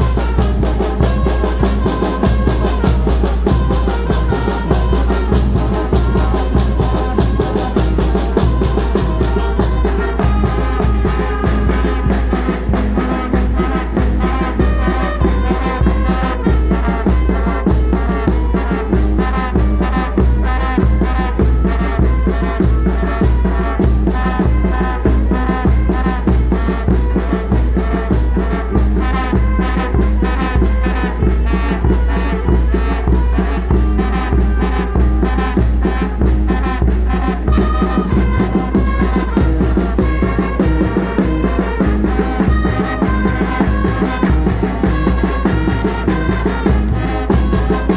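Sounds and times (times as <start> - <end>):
brass band playing up-tempo tune: 0.0 - 47.9.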